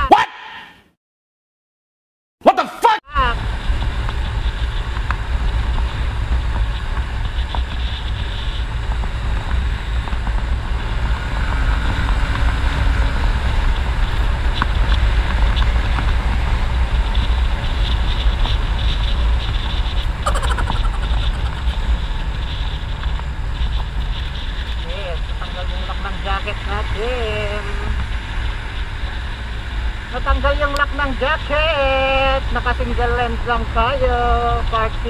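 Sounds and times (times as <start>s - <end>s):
road noise: 3.1s - 35.0s
wind rumble on microphone: 3.1s - 35.0s
motorbike engine: 3.2s - 34.9s.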